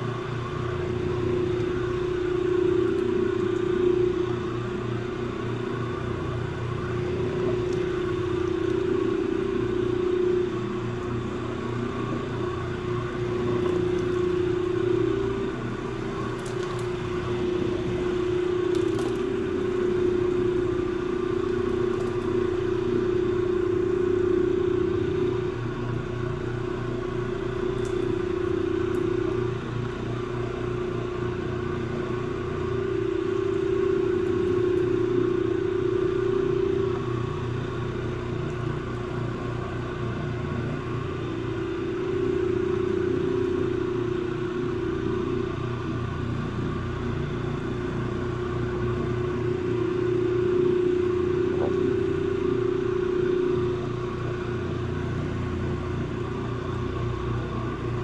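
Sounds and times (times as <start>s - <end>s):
floor machine motor hum: 0.0s - 58.0s.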